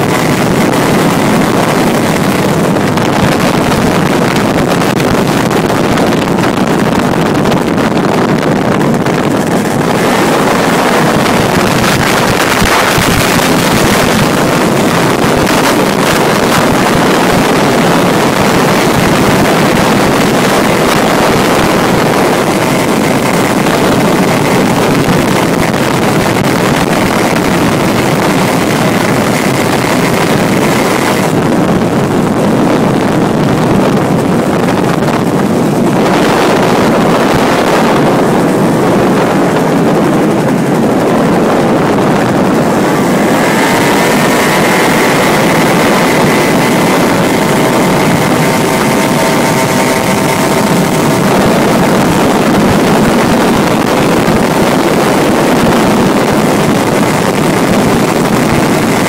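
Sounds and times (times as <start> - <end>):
scooter engine running: 0.0 - 59.0
wind buffeting microphone: 0.0 - 59.0.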